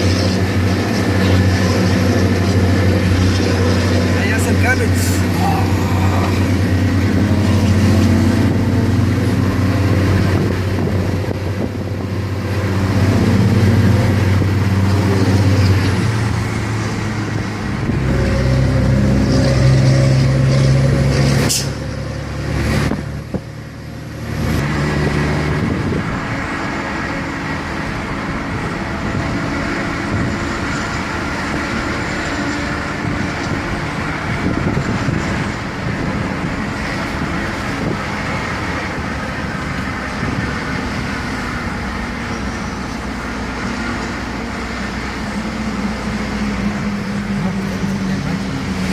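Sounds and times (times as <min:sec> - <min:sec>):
diesel coach engine droning: 0:00.0 - 0:48.9.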